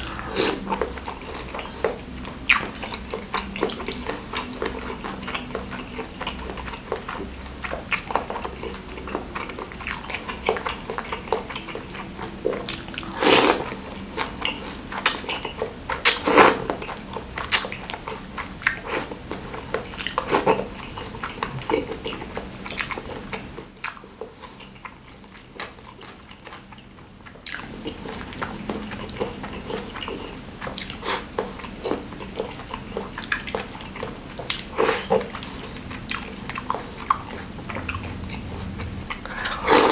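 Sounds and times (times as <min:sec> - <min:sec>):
man chewing food: 0:00.0 - 0:39.9.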